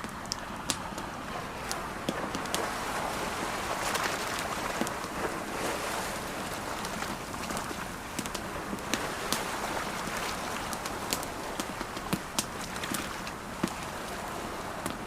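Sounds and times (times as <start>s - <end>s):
campfire crackling and popping: 0.0s - 2.9s, 3.6s - 5.5s, 6.1s - 15.0s
ocean waves washing in: 0.0s - 15.0s.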